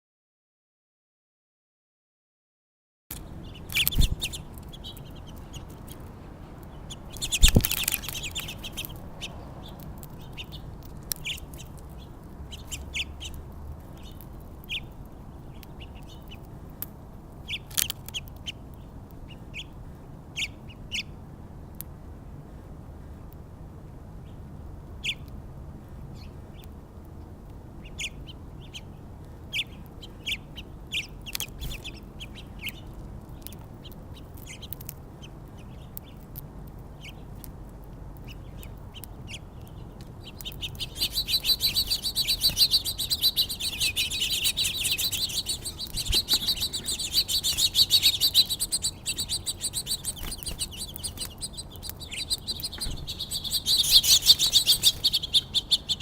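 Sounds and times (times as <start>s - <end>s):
small songbirds chirping: 3.1s - 21.8s, 24.2s - 56.0s.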